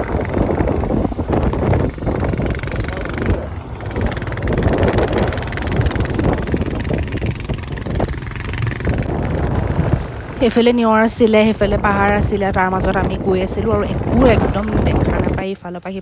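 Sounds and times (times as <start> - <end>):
motorcycle engine running: 0.0 - 15.6
steady rushing noise: 0.0 - 16.0.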